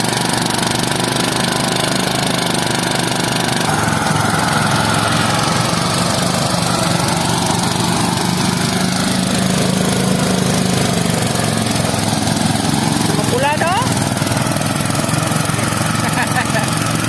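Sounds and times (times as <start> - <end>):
harvesting machine engine running: 0.0 - 17.0.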